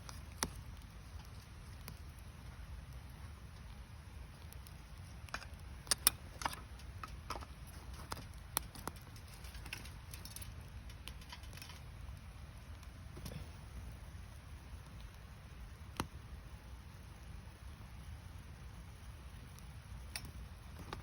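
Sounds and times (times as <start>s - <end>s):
campfire crackling: 0.0s - 21.0s
fire pops and snaps: 0.0s - 21.0s
low steady rumble: 0.0s - 21.0s.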